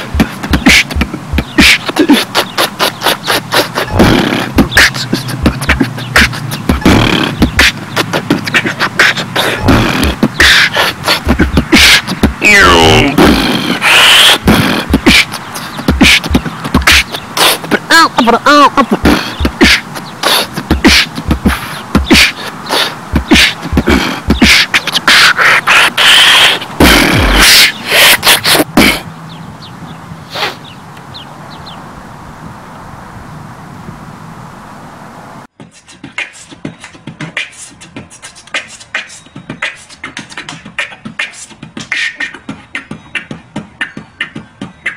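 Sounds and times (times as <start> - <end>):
human beatboxing: 0.0 - 29.1, 35.6 - 44.9.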